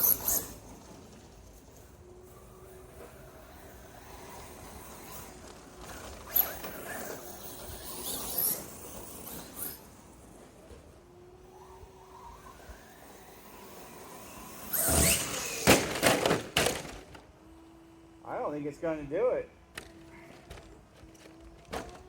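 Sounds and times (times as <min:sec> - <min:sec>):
rc car drivetrain whirring: 0:00.0 - 0:18.5.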